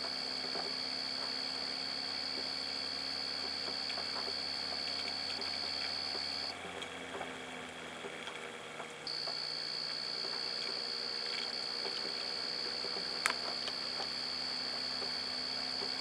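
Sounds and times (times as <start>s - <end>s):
high steady whine: 0.0s - 6.6s, 9.0s - 16.0s
motor disc spinning hum: 0.0s - 16.0s.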